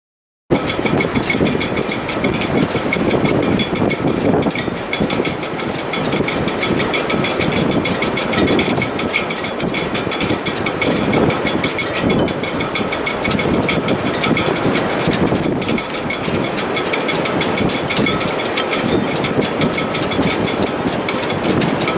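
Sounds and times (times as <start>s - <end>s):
fast even rattle: 0.5s - 21.9s
wind rushing in rigging: 0.5s - 21.9s
wind whistling tones: 0.5s - 21.9s.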